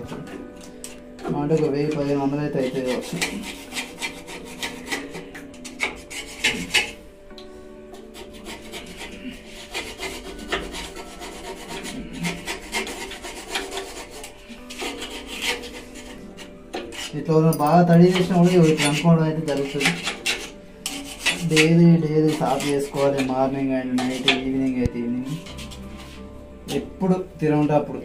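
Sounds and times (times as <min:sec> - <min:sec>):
hand tool scraping metal grinder: 0:00.0 - 0:07.0, 0:07.9 - 0:26.8.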